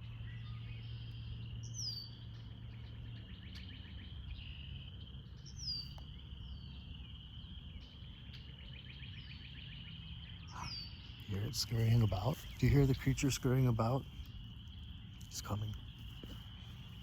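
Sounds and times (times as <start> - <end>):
low steady rumble: 0.0 - 17.0
pulsing insect trill: 0.0 - 17.0.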